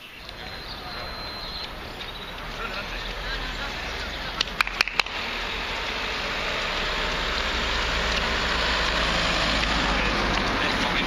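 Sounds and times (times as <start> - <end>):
car traffic on road: 0.0 - 11.0.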